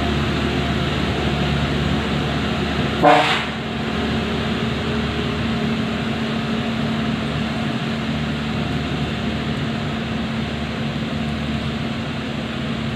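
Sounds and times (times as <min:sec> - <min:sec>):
diesel truck engine under load: 0:00.0 - 0:12.9.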